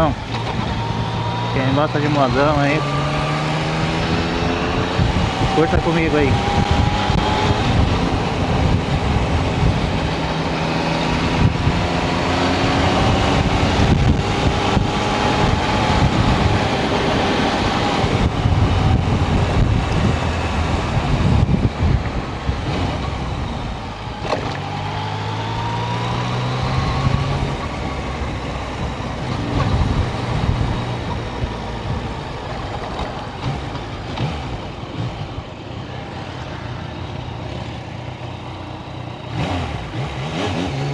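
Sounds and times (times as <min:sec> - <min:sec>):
wind and road rush: 0:00.0 - 0:40.9.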